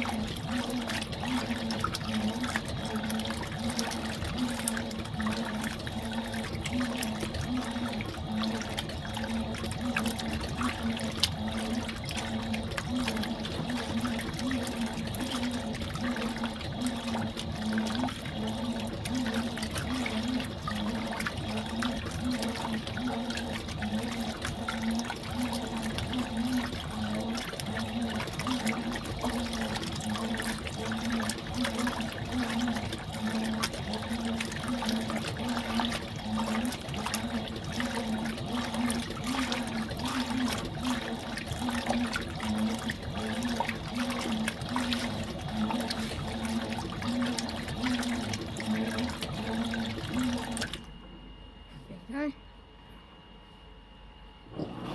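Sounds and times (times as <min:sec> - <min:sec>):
water sloshing in washing machine: 0:00.0 - 0:52.4, 0:54.4 - 0:54.9
washing machine motor hum: 0:00.0 - 0:54.9.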